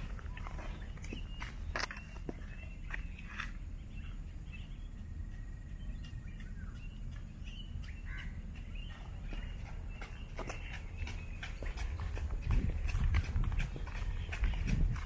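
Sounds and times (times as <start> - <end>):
birds chirping: 0.0 - 15.0
footsteps on asphalt: 0.0 - 15.0.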